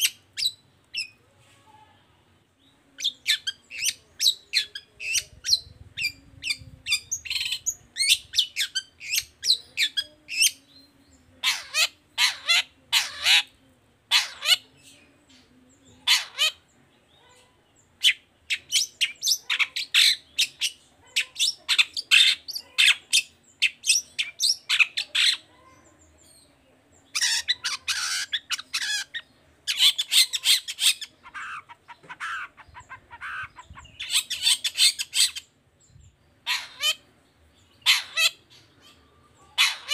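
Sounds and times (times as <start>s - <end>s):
bird harsh chattering song: 0.0s - 1.2s, 3.0s - 39.9s.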